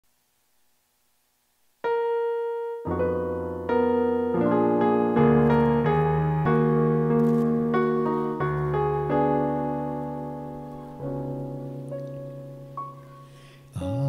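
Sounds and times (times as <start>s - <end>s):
piano hymn accompaniment: 1.8s - 14.0s.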